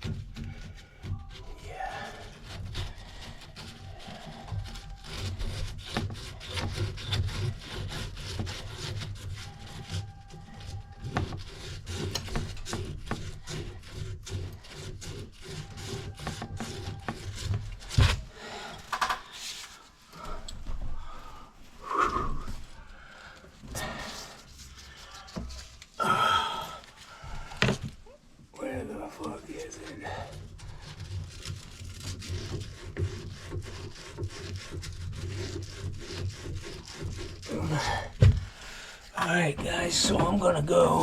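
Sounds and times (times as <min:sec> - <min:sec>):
tool rasping on plumbing material: 0:00.0 - 0:21.2, 0:21.8 - 0:28.0, 0:28.6 - 0:41.0.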